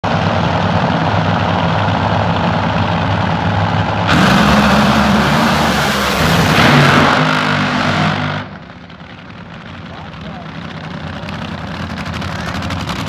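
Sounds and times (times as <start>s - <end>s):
race car engines roaring: 0.0s - 13.0s.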